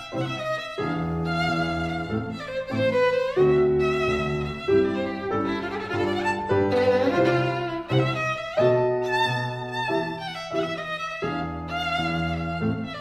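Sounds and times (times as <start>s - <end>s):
low accompaniment: 0.0s - 13.0s
violin melody: 0.0s - 13.0s.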